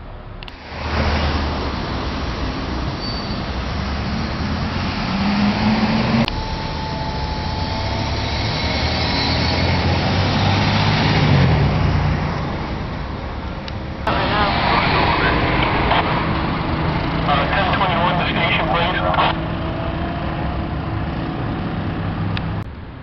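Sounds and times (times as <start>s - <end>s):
vehicles driving past: 0.0s - 23.0s.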